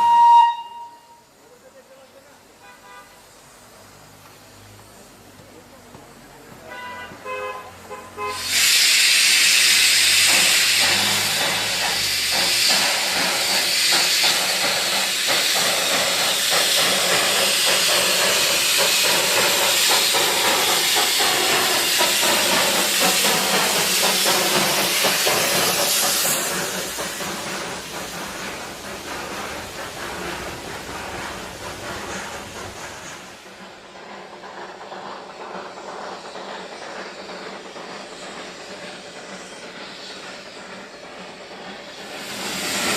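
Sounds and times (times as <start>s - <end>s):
steam locomotive hissing steam: 0.0s - 42.9s.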